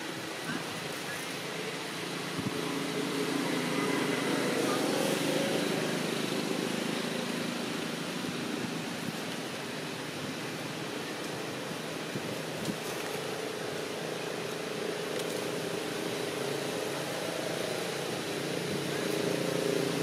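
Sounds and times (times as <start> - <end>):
outdoor drone and hiss: 0.0 - 20.0.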